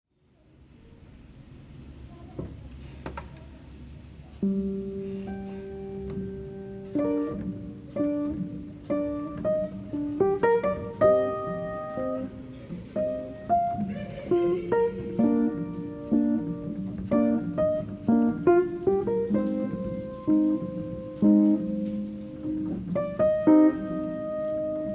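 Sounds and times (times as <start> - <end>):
piano: 3.7 - 24.9.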